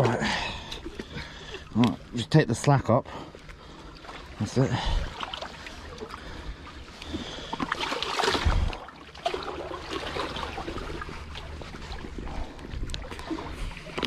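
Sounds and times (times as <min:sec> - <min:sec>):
eel thrashing and water splashing: 0:00.0 - 0:02.4, 0:03.1 - 0:14.0.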